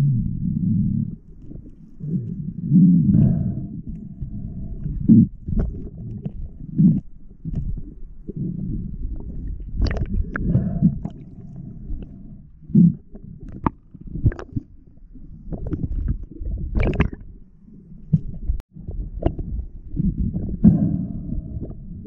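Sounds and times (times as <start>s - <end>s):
underwater churning rumble: 0.0s - 22.0s.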